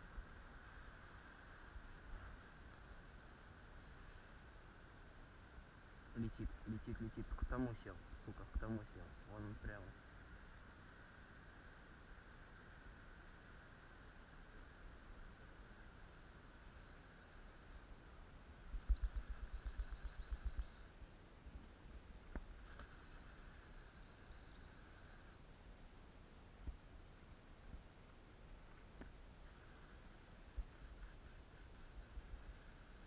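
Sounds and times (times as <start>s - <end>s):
grouse high whistled song: 0.0s - 4.6s, 6.2s - 11.4s, 13.2s - 17.9s, 18.6s - 21.8s, 22.6s - 28.6s, 29.5s - 33.0s.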